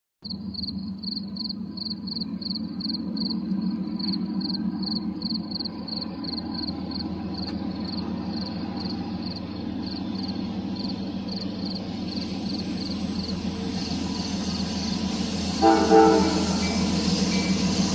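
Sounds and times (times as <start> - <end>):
insect chirping: 0.2 - 17.9.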